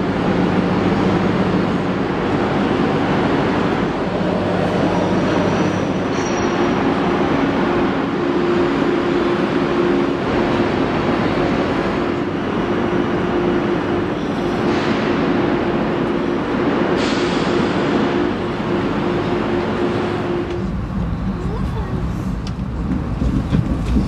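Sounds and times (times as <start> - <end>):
dense wash of noise: 0.0 - 24.0
train humming: 0.0 - 24.0.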